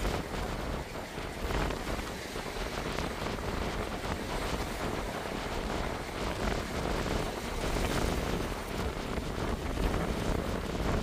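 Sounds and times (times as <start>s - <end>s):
choppy water and breaking waves: 0.0s - 11.0s
wind buffeting microphone: 0.0s - 11.0s.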